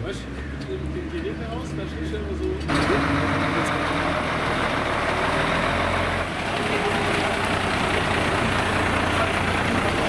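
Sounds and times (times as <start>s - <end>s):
diesel truck engine rumbling: 0.0s - 10.0s.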